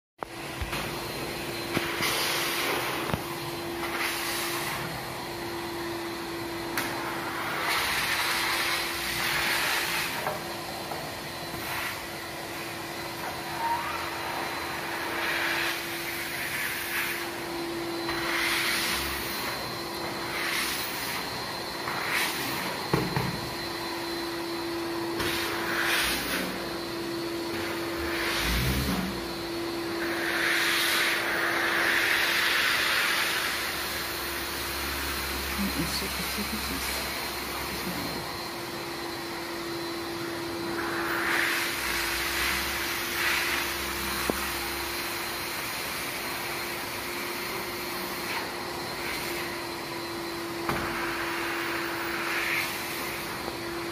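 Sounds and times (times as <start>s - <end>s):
vacuum cleaner sucking water: 0.3s - 53.9s.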